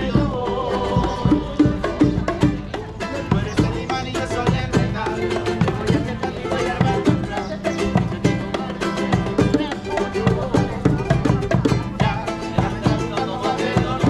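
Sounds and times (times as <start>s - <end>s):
upbeat plucked string music: 0.0s - 14.0s.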